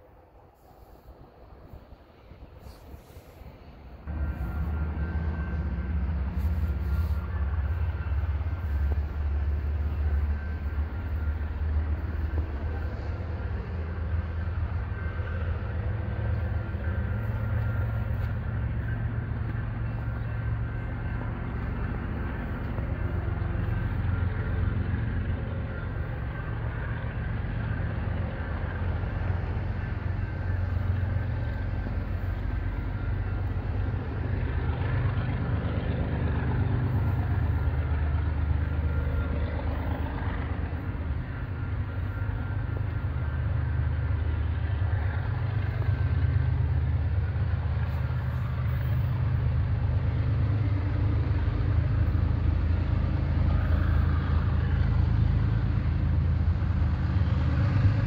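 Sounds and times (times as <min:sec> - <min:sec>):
diesel locomotive rumble: 0:00.0 - 0:58.0.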